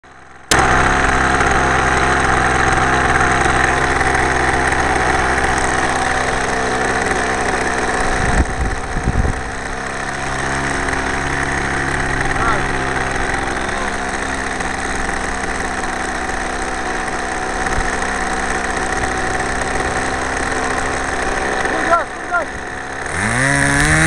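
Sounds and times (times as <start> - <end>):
model airplane engine idling: 0.0 - 24.0.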